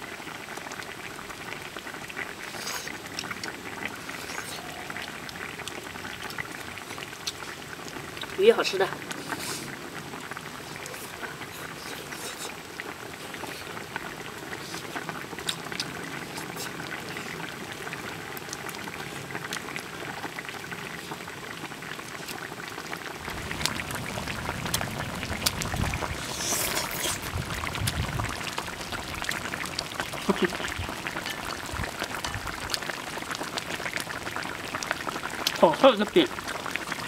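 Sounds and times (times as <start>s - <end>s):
stew bubbling with small pops: 0.0s - 37.0s.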